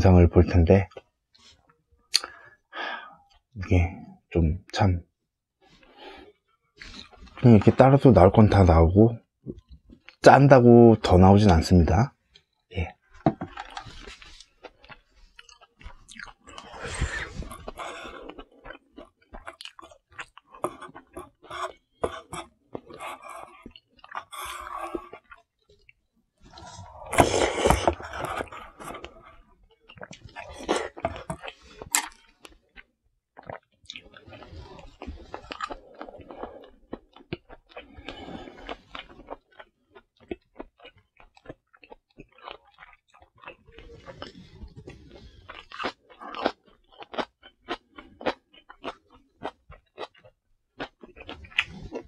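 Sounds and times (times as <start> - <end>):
man chewing close to microphone: 6.7 - 7.9, 9.4 - 10.2, 12.2 - 52.0.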